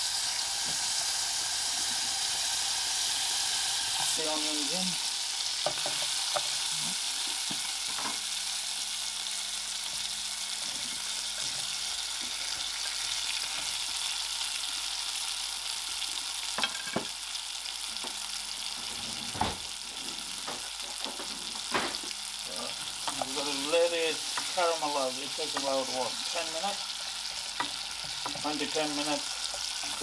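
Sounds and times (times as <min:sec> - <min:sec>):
onions sizzling in butter: 0:00.0 - 0:30.0.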